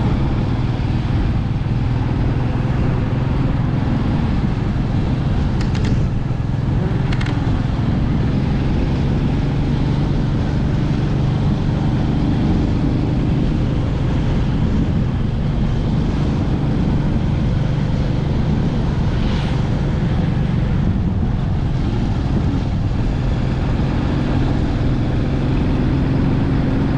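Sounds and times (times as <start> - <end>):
motorcycle engine running: 0.0 - 26.9
road and wind noise: 0.0 - 26.9.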